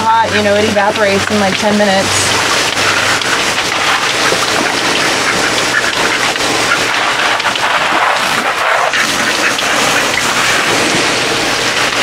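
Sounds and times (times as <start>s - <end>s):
hose spraying water on mud: 0.1s - 12.0s.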